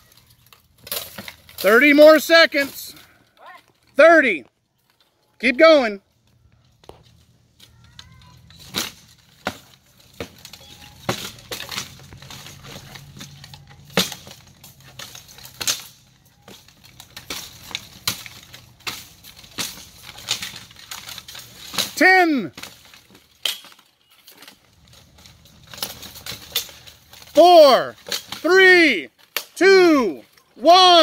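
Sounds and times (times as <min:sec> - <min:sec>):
armour clanking: 0:00.0 - 0:31.0.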